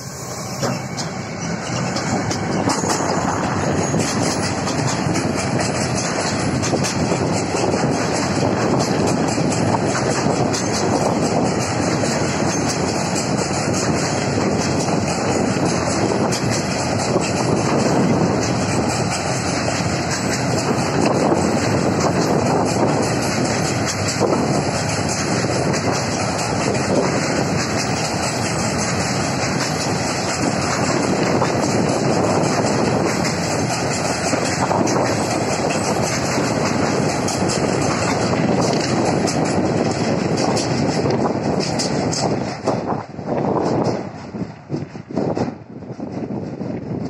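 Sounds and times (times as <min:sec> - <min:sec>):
train wheels rumbling on rails: 0:00.0 - 0:47.0
wind buffeting microphone: 0:00.5 - 0:47.0.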